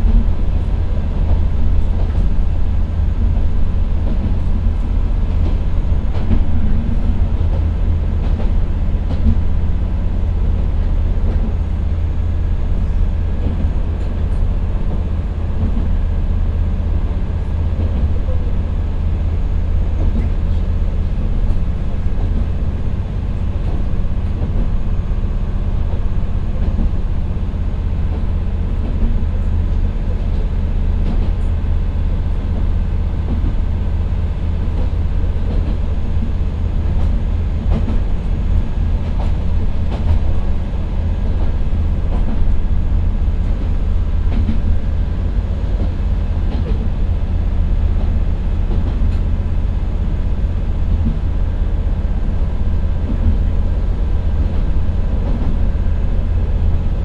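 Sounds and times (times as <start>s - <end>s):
train rolling noise: 0.0s - 57.0s.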